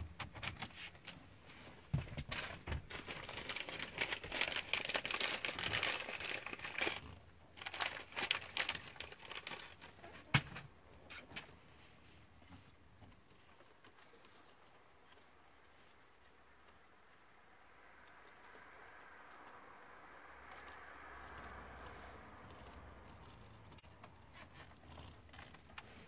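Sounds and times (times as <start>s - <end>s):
plastic wires crinkling and rustling: 0.1s - 17.3s, 20.5s - 26.0s.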